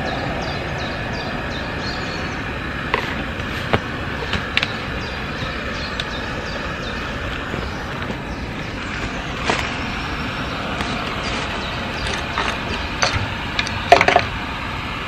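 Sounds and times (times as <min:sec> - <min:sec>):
small birds chirping: 0:00.0 - 0:14.9
steady rushing roar: 0:00.0 - 0:15.0.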